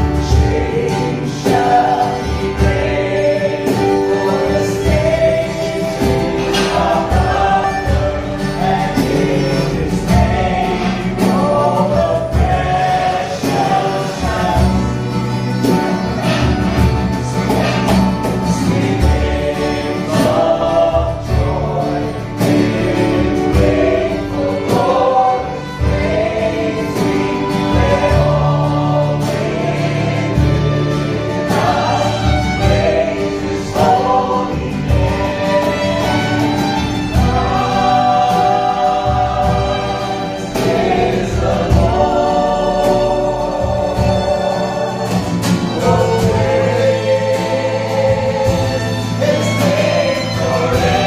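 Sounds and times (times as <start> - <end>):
acoustic guitar: 0.0 - 51.0
cajon beat: 0.0 - 51.0
group singing: 0.0 - 51.0
keyboard: 0.0 - 51.0.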